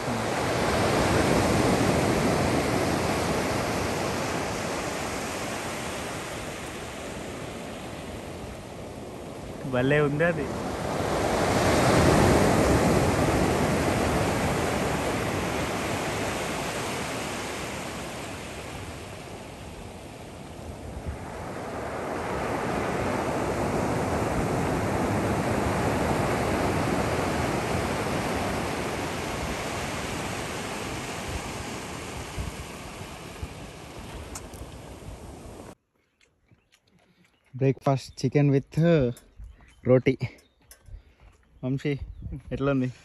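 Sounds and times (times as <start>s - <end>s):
ocean surf washing up beach: 0.0s - 35.8s.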